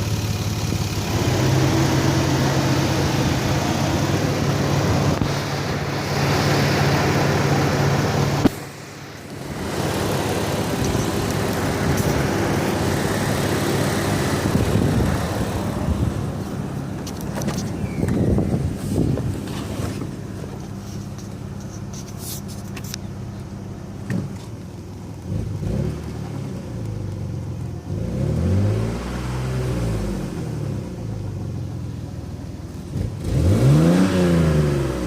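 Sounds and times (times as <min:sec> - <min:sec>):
car engine and exhaust running: 0:00.0 - 0:35.0.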